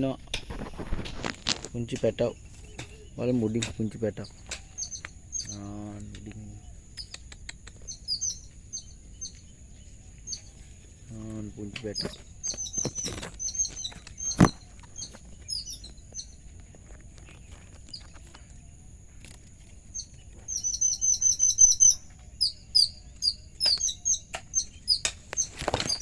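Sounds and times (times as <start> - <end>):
chicks chirping: 0.0 - 18.4, 19.2 - 26.0.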